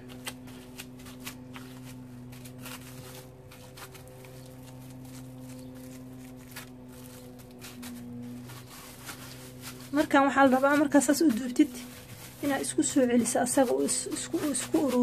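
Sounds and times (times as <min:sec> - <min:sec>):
cling film crinkling: 0:00.0 - 0:13.3
low hum: 0:00.0 - 0:15.0.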